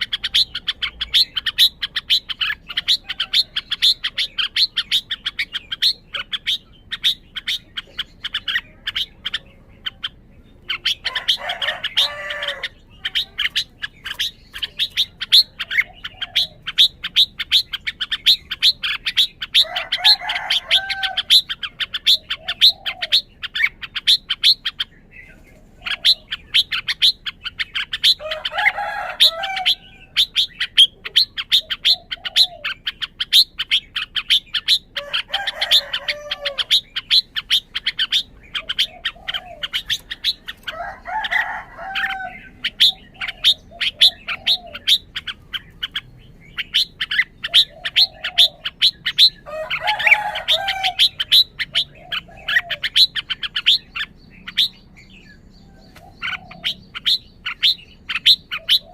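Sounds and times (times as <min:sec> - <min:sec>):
bird chirping: 0:00.0 - 0:58.9
bird warbling song: 0:00.0 - 0:58.9.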